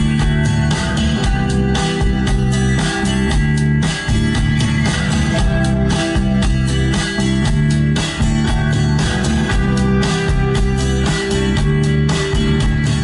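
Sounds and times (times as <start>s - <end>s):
music with steady beat in car: 0.0s - 13.0s.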